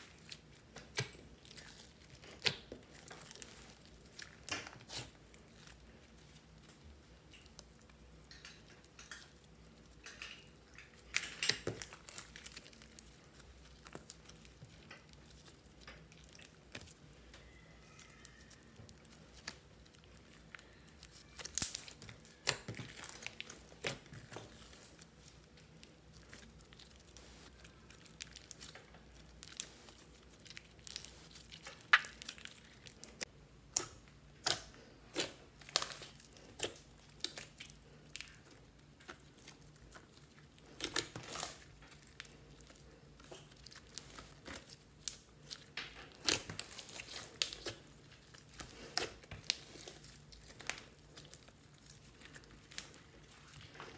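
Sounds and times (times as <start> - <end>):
slime squishing and crackling: 0.0 - 53.9
slime popping: 9.8 - 53.9.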